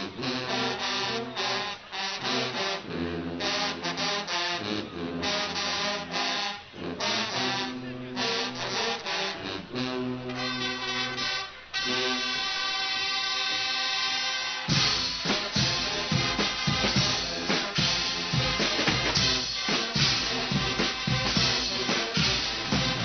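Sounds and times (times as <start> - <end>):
carnival brass band playing: 0.0 - 23.0.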